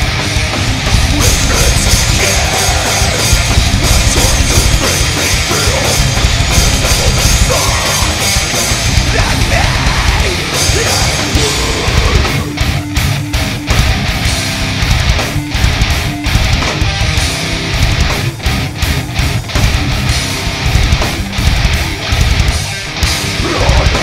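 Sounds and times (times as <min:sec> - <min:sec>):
heavy metal music: 0:00.0 - 0:24.0.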